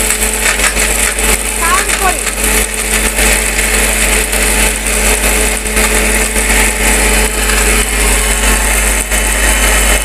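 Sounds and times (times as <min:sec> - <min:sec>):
blender grinding: 0:00.0 - 0:10.0.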